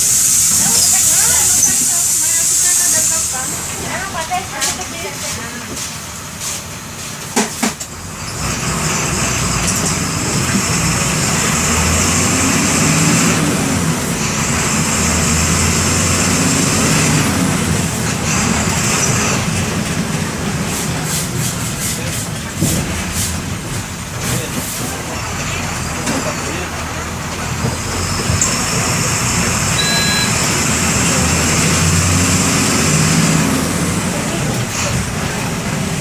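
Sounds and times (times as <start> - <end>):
bus diesel engine accelerating: 0.0 - 36.0.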